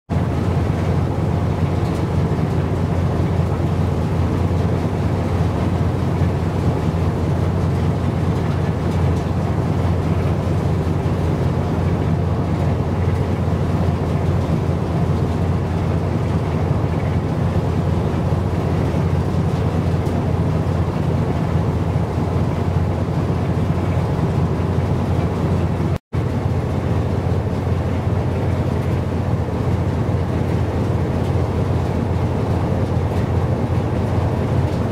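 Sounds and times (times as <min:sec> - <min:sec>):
boat engine rumble: 0:00.1 - 0:34.9
water noise: 0:00.1 - 0:34.9
wind: 0:00.1 - 0:34.9.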